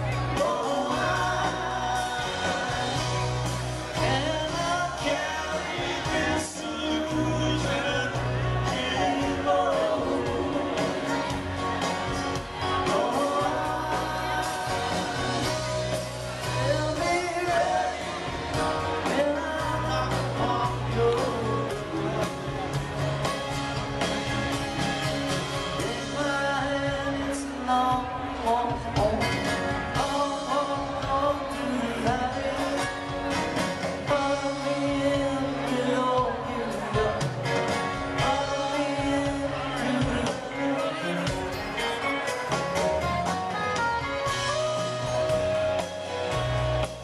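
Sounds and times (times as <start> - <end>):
man singing: 0.0 - 23.1, 24.7 - 43.0
acoustic guitars: 0.0 - 47.0
drums: 0.0 - 47.0
live string band playing: 0.0 - 47.0.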